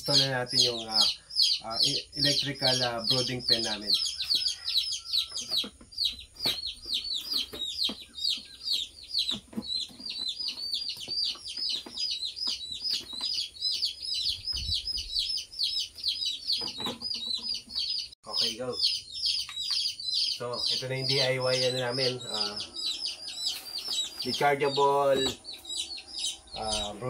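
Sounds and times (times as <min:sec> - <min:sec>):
baby chicks peeping: 0:00.0 - 0:27.0.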